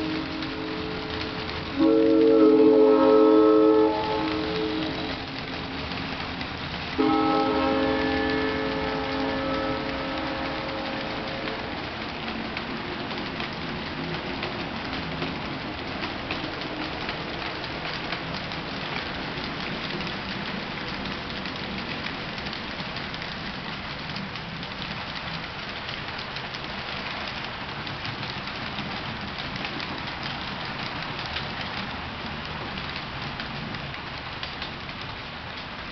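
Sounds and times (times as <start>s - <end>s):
model train rumbling past: 0.0s - 35.9s
wheels clicking over rail joints: 0.0s - 35.9s.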